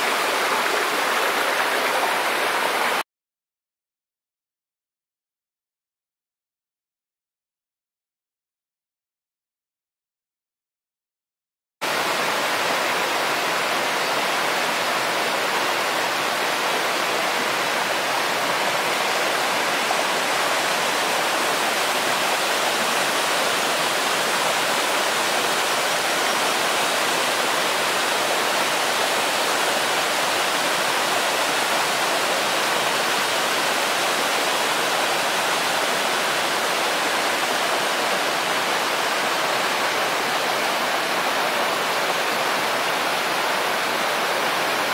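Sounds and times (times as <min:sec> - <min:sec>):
waterfall rushing: 0:00.0 - 0:03.0, 0:11.8 - 0:44.9.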